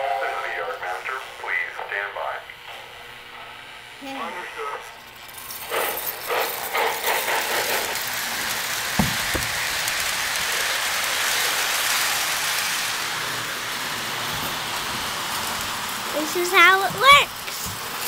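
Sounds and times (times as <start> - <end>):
model train steam hiss: 0.0 - 18.0.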